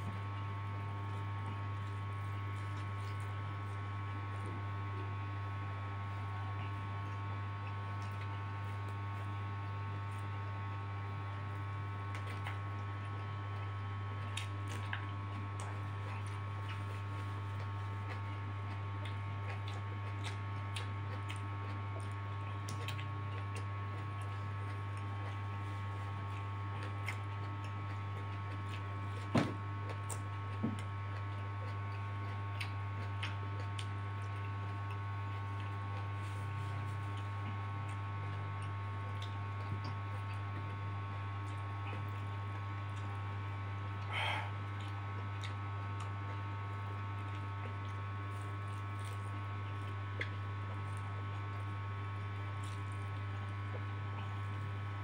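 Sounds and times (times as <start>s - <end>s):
soft chewing and mouth clicks: 0.0s - 54.9s
steady electrical hum: 0.0s - 55.0s.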